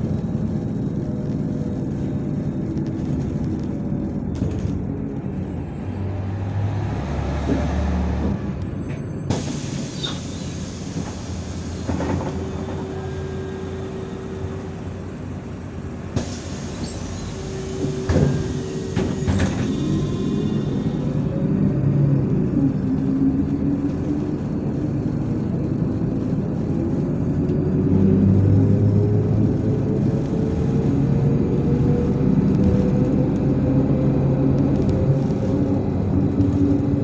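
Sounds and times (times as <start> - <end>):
bus engine running: 0.0 - 37.0.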